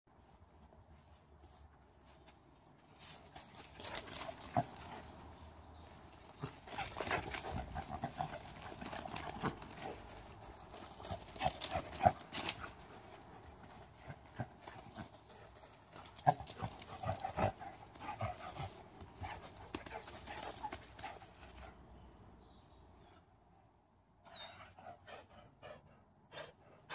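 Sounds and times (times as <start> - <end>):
dog paws on grass and leaves: 0.2 - 21.8.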